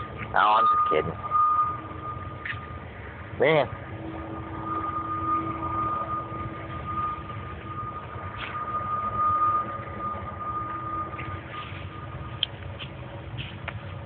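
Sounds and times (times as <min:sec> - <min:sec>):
distant train rumbling: 0:00.0 - 0:14.0
steady high whine: 0:00.0 - 0:14.0.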